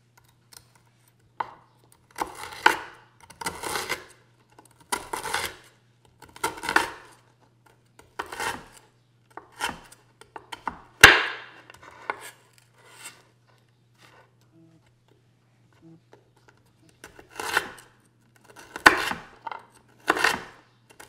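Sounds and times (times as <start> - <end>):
knife chopping crunchy cookies: 0.2 - 13.3, 16.2 - 21.0.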